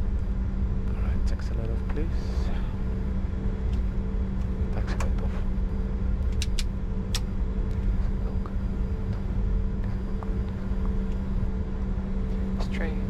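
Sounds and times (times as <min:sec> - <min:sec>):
jet engines idling rumble: 0:00.0 - 0:13.0.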